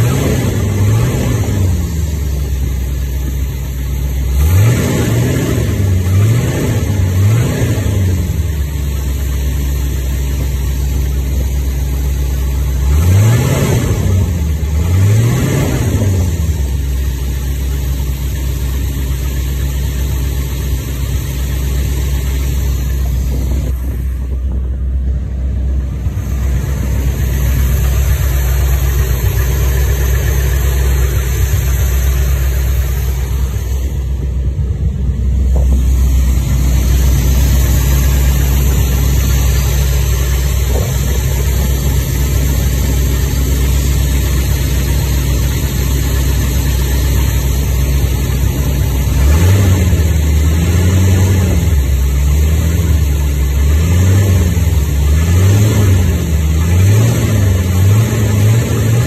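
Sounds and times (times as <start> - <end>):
engine idling with ticking: 0.0 - 59.0
engine revving: 0.0 - 59.0.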